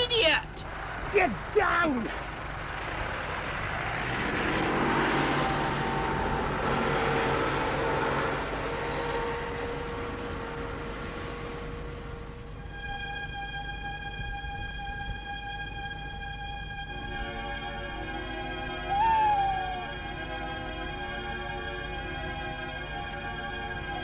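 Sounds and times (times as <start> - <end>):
tractor diesel engine: 0.0 - 24.0.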